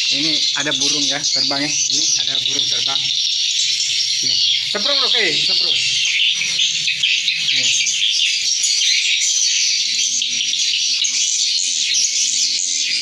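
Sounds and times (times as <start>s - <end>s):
swiftlets twittering: 0.0s - 13.0s.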